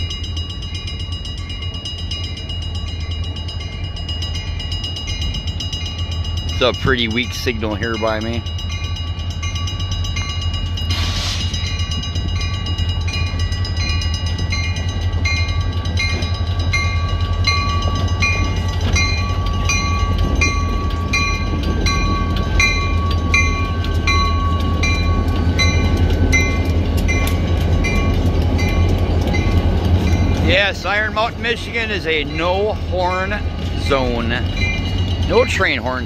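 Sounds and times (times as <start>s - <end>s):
crossing bell ringing: 0.0s - 36.0s
diesel locomotive engine rumble: 0.0s - 36.0s.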